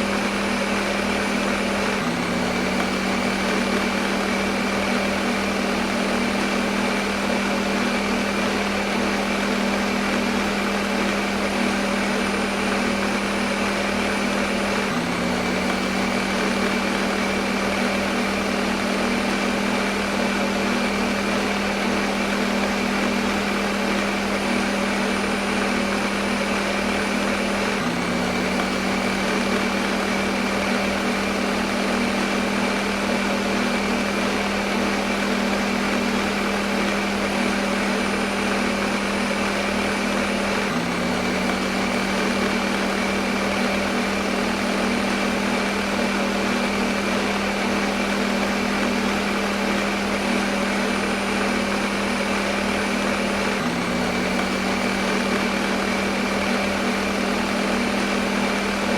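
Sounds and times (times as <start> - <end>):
electric blender running: 0.0 - 58.9.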